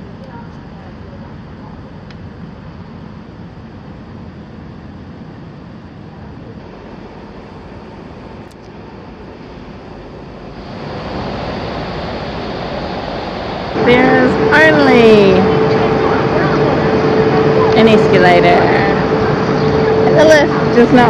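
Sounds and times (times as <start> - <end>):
train carriage rumble and hiss: 0.0 - 21.0.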